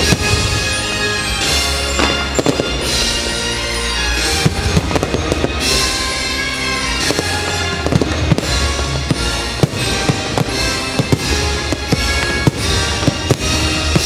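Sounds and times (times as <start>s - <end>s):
fireworks bangs: 0.0s - 14.0s
loud show music: 0.0s - 14.0s.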